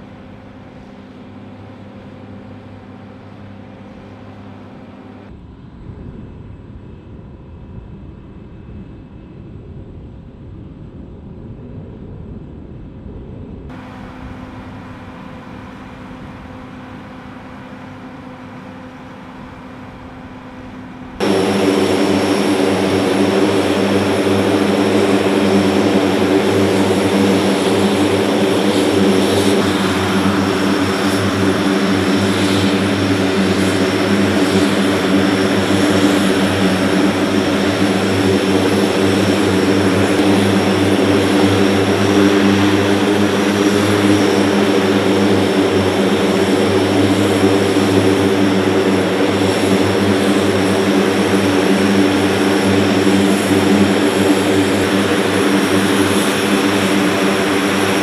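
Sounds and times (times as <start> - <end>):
high engine whine: 0.0 - 58.0
turboprop engine drone: 0.0 - 58.0.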